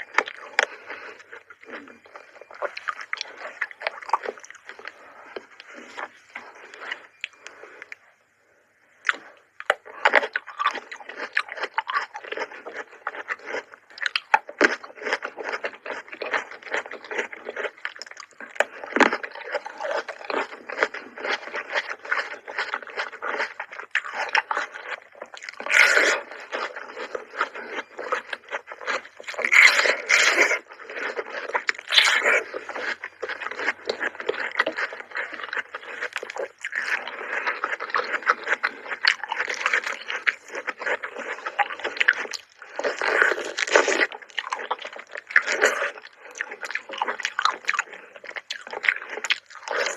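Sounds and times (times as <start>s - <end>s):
chewing fresh fruit: 0.0s - 49.9s.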